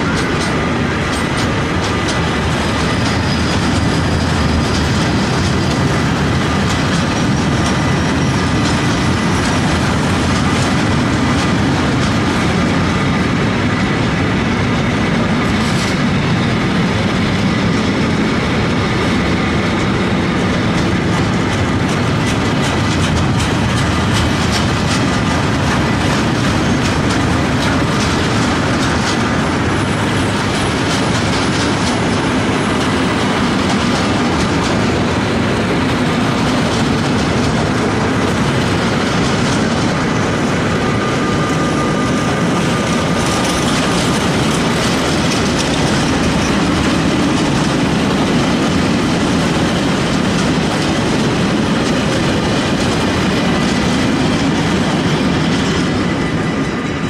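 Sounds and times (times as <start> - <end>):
freight train rumbling past: 0.0 - 57.0
wheels clattering over rail joints: 0.0 - 57.0.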